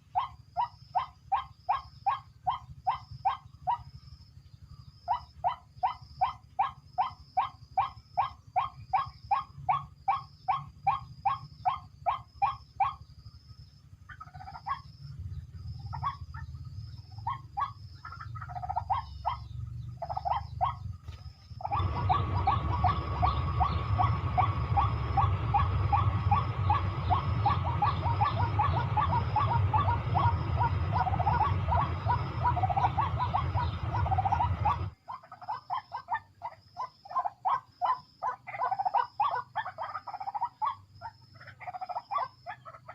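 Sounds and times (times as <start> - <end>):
bird harsh calls: 0.0 - 42.9.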